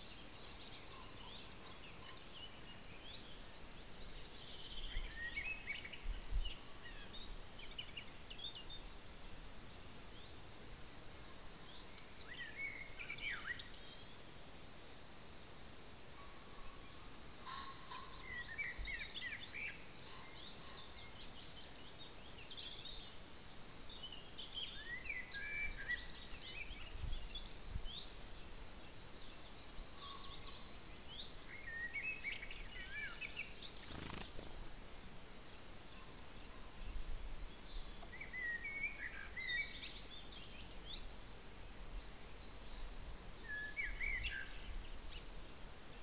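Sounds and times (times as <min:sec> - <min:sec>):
faint steady hiss: 0:00.0 - 0:46.0
songbirds chirping: 0:00.0 - 0:46.0.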